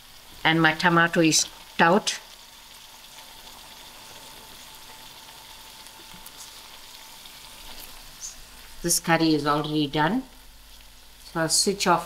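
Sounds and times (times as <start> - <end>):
curry sizzling in oil: 0.0 - 12.0.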